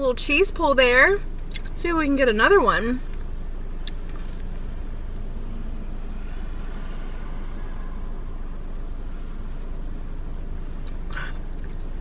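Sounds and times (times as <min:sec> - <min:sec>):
low rumble of vehicle noise: 0:00.0 - 0:12.0.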